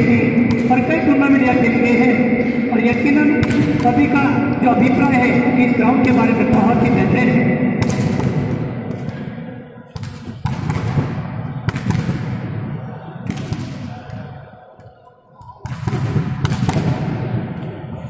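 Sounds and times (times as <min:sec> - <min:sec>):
murmur of voices: 0:00.0 - 0:18.0.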